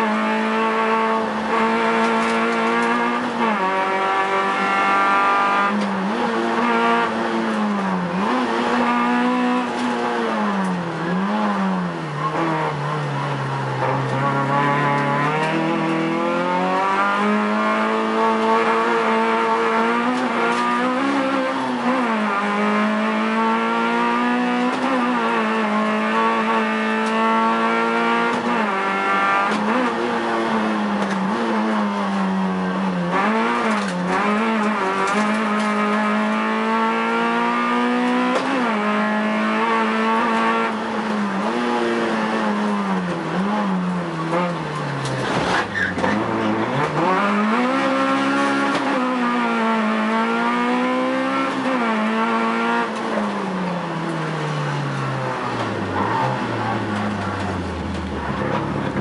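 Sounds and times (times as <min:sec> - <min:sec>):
rally car engine at full throttle: 0:00.0 - 0:59.0.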